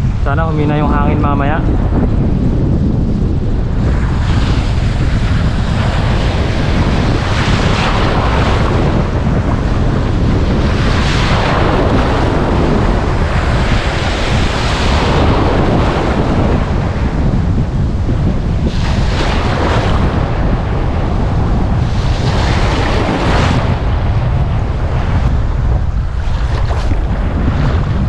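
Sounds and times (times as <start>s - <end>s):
surf washing on shore: 0.0s - 28.0s
wind buffeting microphone: 0.0s - 28.0s.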